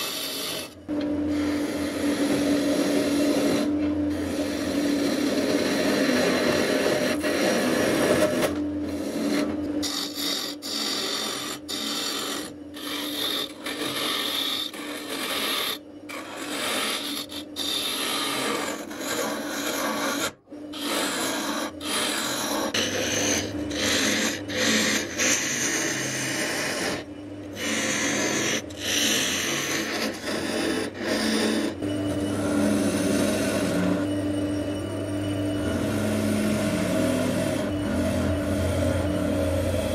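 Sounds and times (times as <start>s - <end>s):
chisel scraping spinning wood: 0.0s - 39.9s
lathe humming: 0.0s - 39.9s.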